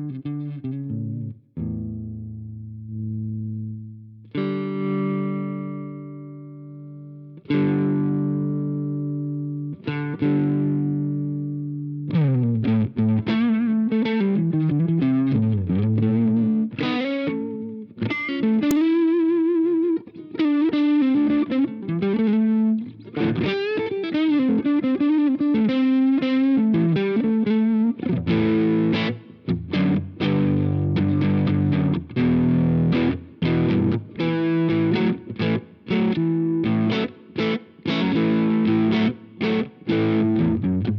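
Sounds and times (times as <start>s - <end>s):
overdriven electric guitar: 0.0s - 40.9s.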